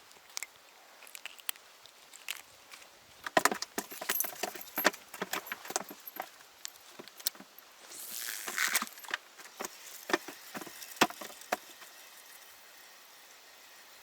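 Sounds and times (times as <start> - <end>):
small clicks and metallic clinks: 0.1 - 12.4.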